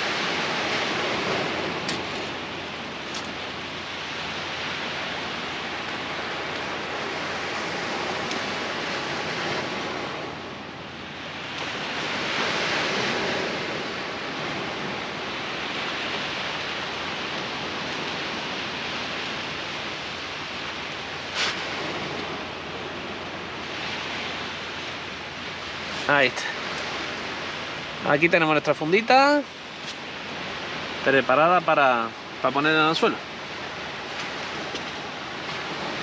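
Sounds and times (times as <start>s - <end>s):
waves breaking on beach: 0.0s - 36.0s.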